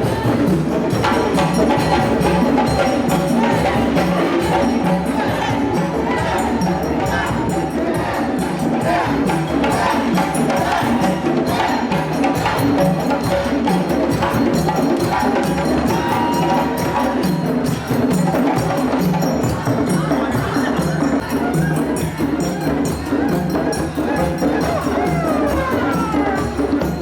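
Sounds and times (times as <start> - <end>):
percussion ensemble drumming: 0.0 - 27.0.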